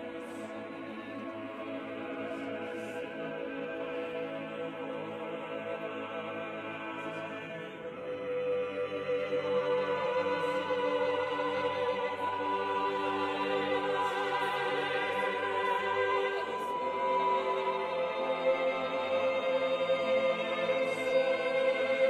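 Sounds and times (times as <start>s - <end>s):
choir singing a cappella: 0.0s - 22.0s.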